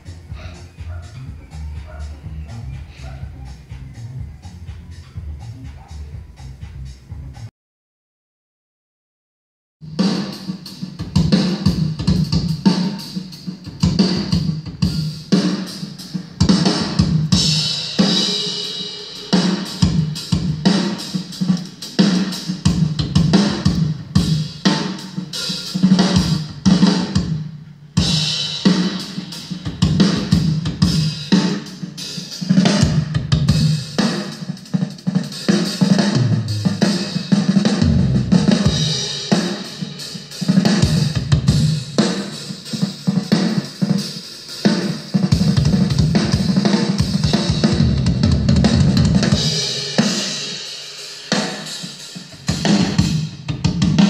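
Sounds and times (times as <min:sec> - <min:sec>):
drum kit playing through speaker: 0:00.0 - 0:07.5, 0:09.8 - 0:54.0.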